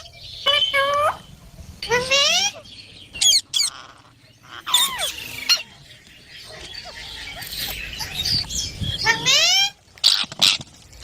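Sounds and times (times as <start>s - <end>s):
parrot squawking and chirping: 0.0s - 10.7s.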